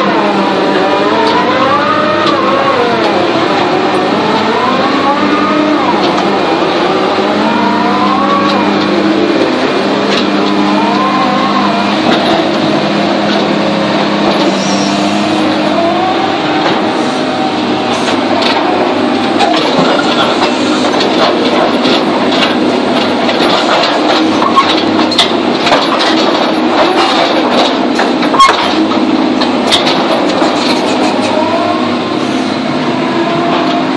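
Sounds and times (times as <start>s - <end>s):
drilling rig diesel engine: 0.0s - 33.9s
hydraulic whine: 0.0s - 33.9s.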